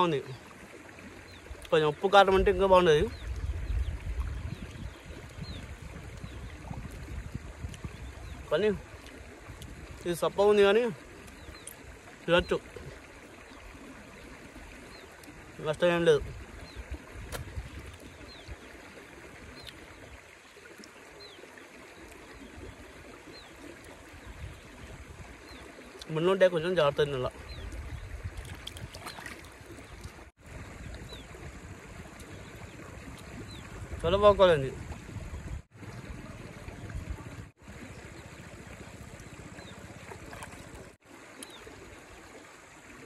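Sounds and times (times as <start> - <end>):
river water running over rocks: 0.0 - 43.0.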